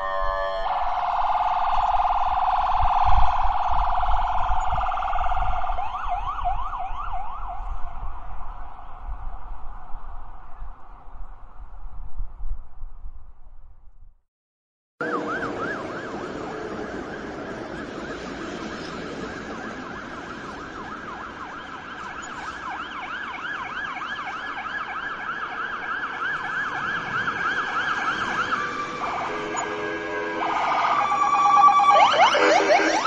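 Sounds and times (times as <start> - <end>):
ambulance siren: 0.0 - 10.8, 15.0 - 33.0.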